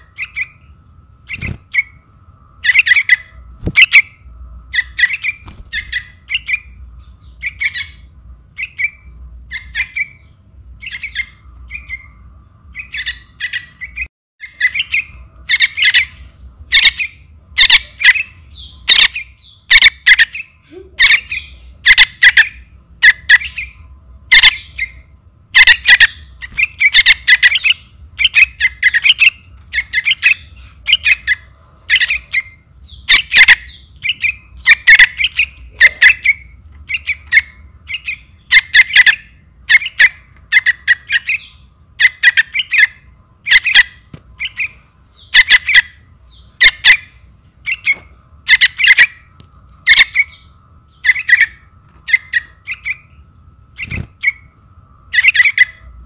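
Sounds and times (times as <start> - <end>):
nestlings chirping harshly: 0.0 - 54.5, 55.1 - 56.0.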